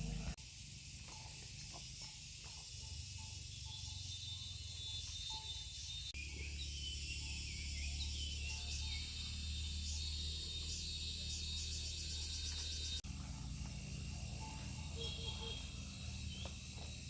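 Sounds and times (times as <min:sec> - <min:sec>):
insects shrilling and trilling: 0:00.0 - 0:17.0
steady low hum: 0:00.0 - 0:17.0.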